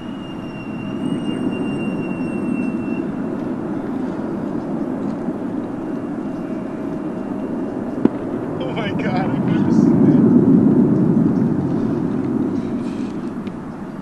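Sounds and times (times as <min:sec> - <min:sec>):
jet engine rumble: 0:00.0 - 0:14.0
thin high whine: 0:00.0 - 0:14.0.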